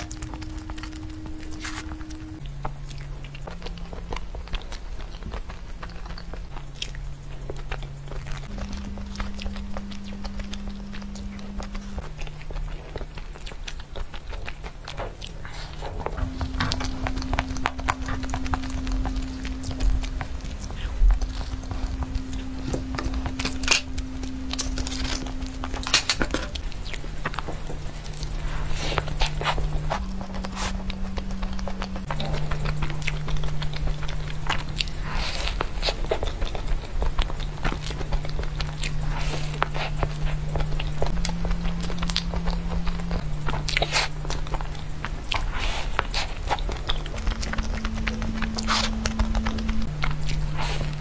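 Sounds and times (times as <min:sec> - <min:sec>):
crisp bites and chewing: 0:00.0 - 0:51.0
low held tone: 0:00.0 - 0:51.0.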